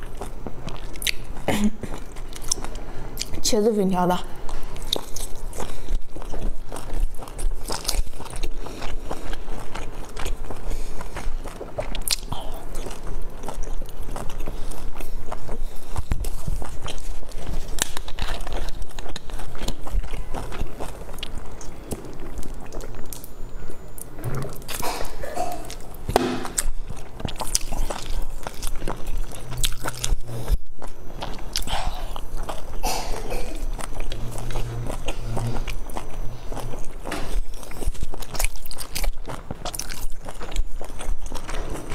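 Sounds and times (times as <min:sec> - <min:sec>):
chewing dumplings: 0:00.0 - 0:41.9.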